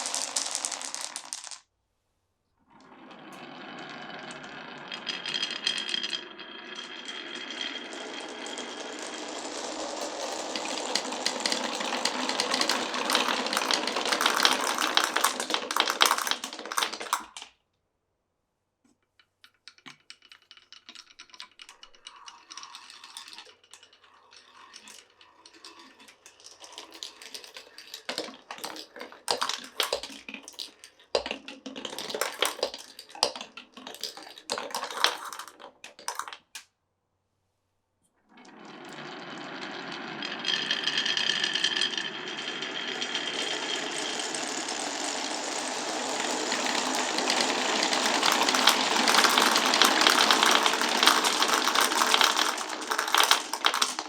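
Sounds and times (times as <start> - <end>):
marbles rolling and clattering: 0.0 - 1.6, 2.7 - 17.5, 19.4 - 36.6, 38.3 - 54.0.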